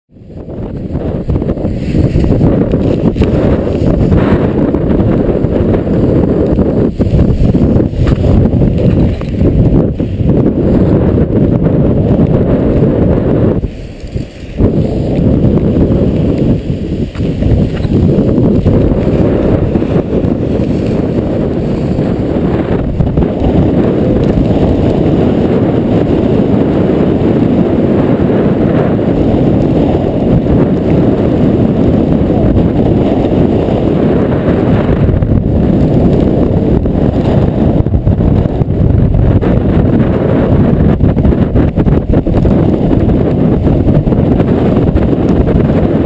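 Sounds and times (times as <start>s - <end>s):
wind buffeting microphone: 0.1s - 46.0s.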